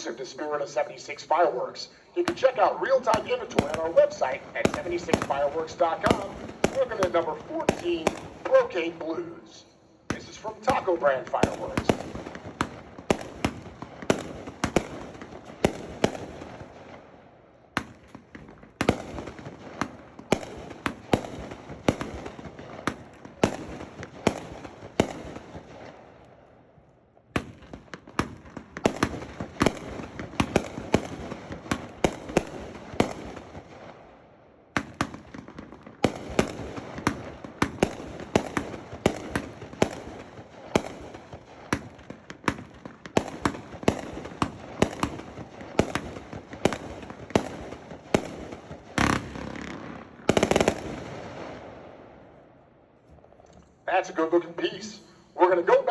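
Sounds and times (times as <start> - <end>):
firework cake firing shots: 2.2 - 8.9, 10.1 - 17.0, 17.7 - 26.1, 27.3 - 34.0, 34.7 - 51.7.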